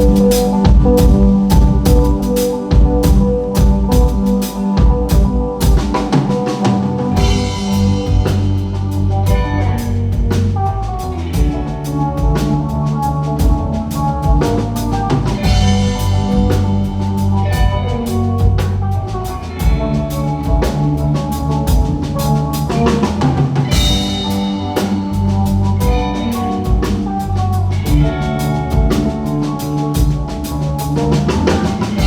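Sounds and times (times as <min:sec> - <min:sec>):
drum kit beat: 0:00.0 - 0:32.0
sustained pitched notes: 0:00.0 - 0:32.0.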